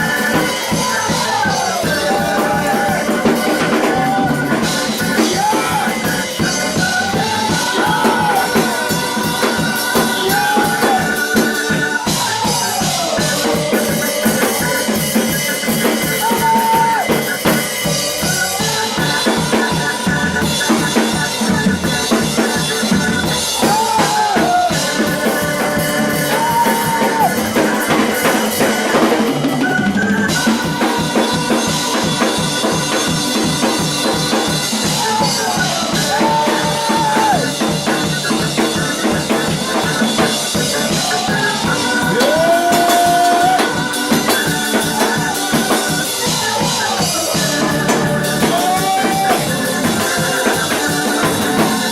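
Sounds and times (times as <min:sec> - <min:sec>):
drum kit beat: 0:00.0 - 0:51.9
sliding held melody line: 0:00.0 - 0:51.9
sustained keyboard chords: 0:00.0 - 0:51.9.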